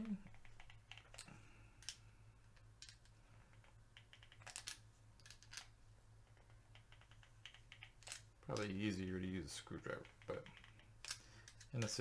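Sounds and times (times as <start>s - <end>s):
low electrical hum: 0.0s - 12.0s
small metal parts clicking: 0.3s - 5.7s, 6.4s - 8.9s, 9.9s - 12.0s.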